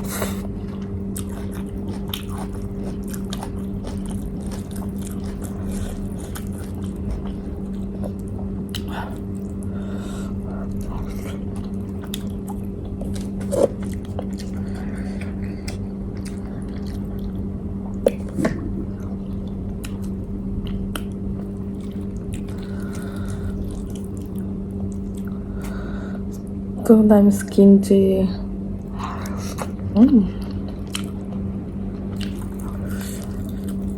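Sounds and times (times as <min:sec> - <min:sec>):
person chewing: 0:00.0 - 0:26.4, 0:29.2 - 0:33.9
low hum: 0:00.0 - 0:33.9.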